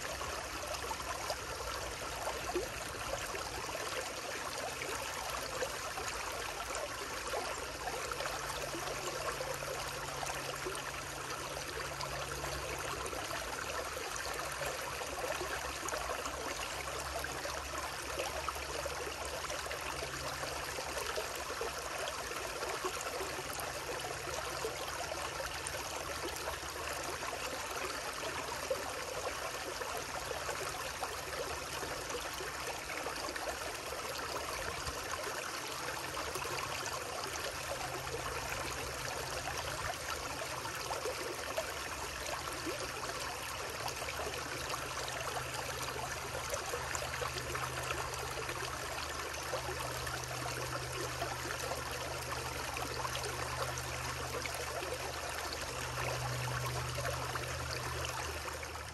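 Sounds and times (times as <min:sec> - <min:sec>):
stream water running: 0:00.0 - 0:58.9.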